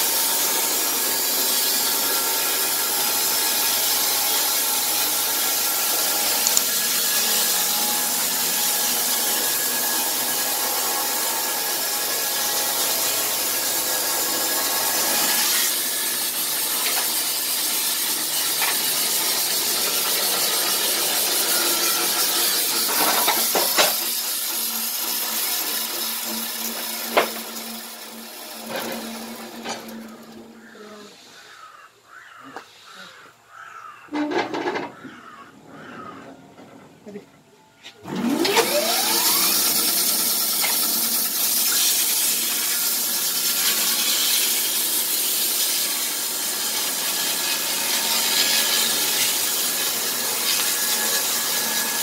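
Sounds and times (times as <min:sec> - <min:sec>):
band saw cutting log: 0:00.0 - 0:30.8, 0:37.8 - 0:52.0.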